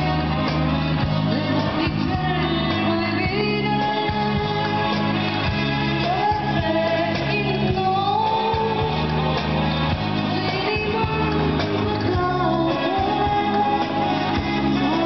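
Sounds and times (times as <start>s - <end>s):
bass guitar: 0.0s - 15.0s
drums: 0.0s - 15.0s
lead singer singing: 0.0s - 15.0s.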